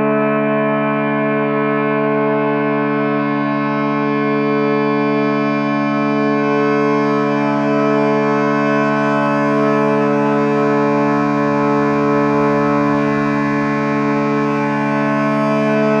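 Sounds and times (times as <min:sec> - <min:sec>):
ambient meditation music drone: 0:00.0 - 0:16.0.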